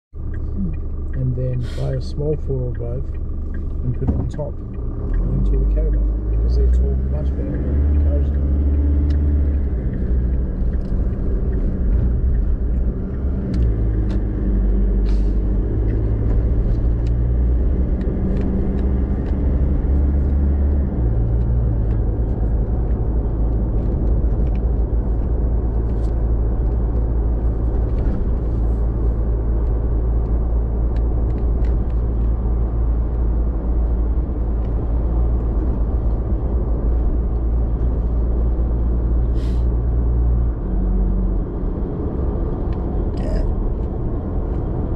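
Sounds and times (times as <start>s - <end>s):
car engine and road rumble: 0.1s - 44.9s.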